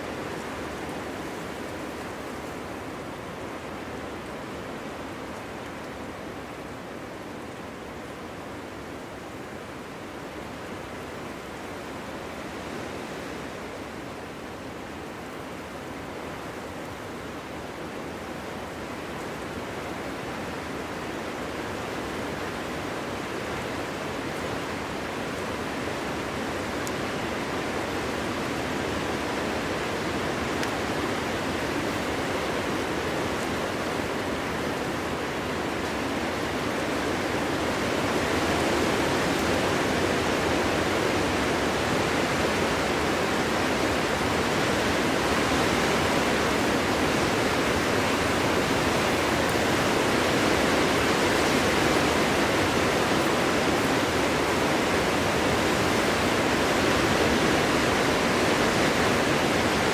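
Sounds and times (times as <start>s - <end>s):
wind rushing through forest: 0.0s - 59.9s.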